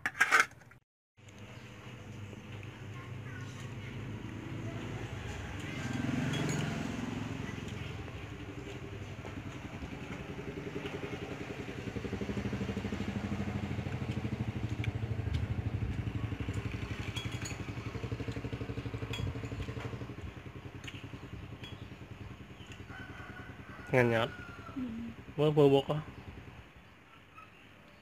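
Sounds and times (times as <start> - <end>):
small engine running: 1.4 - 26.9.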